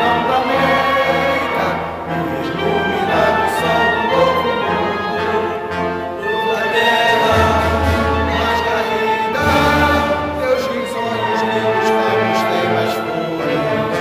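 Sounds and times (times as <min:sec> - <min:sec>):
orchestral string music: 0:00.0 - 0:14.0.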